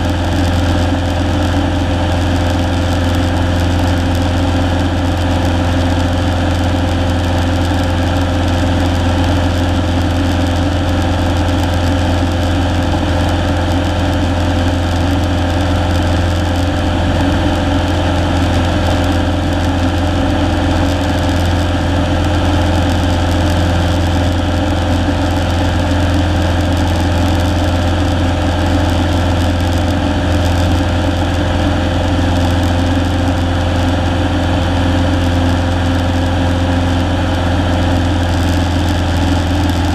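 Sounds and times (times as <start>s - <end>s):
propeller plane engine hum: 0.0s - 39.9s.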